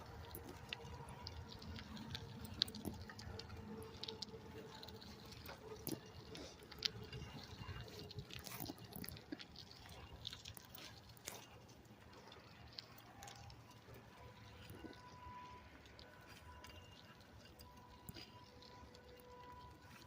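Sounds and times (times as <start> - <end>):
bicycle clicks and rattles: 0.0 - 20.0
low steady rumble: 0.0 - 20.0.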